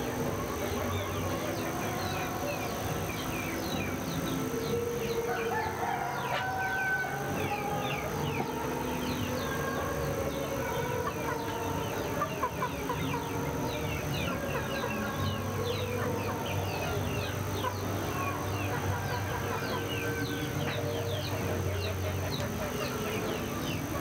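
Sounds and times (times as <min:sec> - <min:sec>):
rooster crowing: 0:00.0 - 0:24.0
songbirds chirping: 0:00.0 - 0:24.0.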